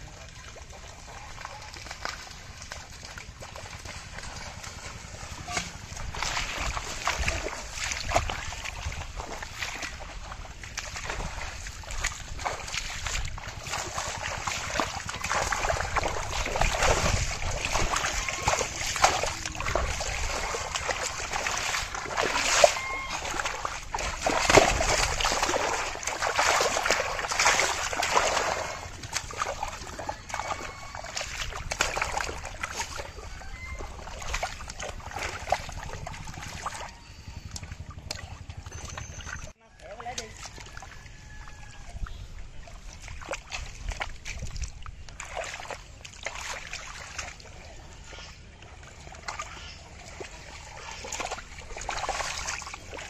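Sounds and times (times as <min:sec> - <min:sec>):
splashing in shallow muddy water: 0:00.0 - 0:53.0.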